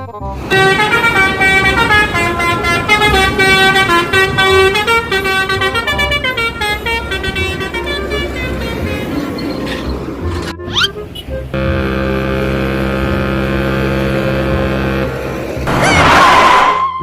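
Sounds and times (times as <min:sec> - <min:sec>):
musical air horn: 0:00.1 - 0:09.9, 0:11.0 - 0:17.0.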